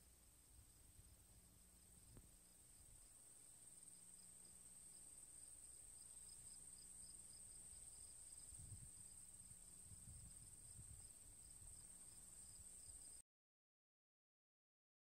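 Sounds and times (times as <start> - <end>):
faint high-pitched whine: 0.0 - 13.2
faint low hum: 0.0 - 13.2.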